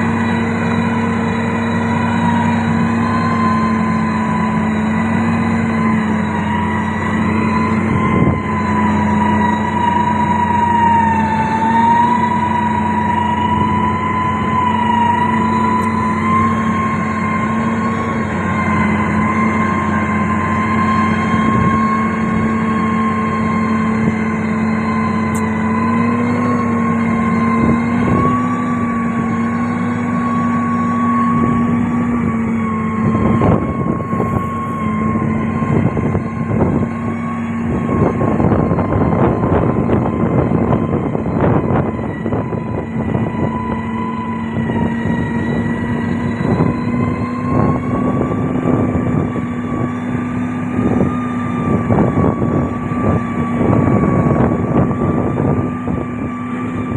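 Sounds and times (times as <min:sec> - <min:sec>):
heavy machinery engine drone: 0:00.0 - 0:56.9
high wavering whine: 0:00.0 - 0:56.9.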